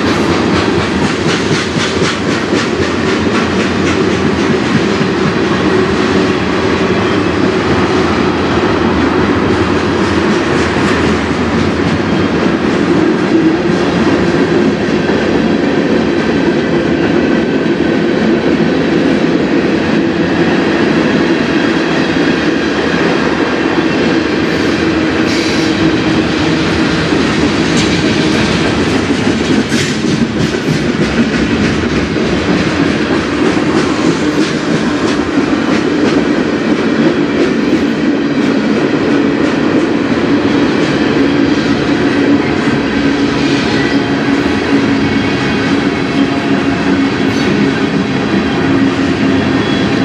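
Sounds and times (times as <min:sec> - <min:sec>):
freight train wheels rumbling: 0:00.0 - 0:50.0.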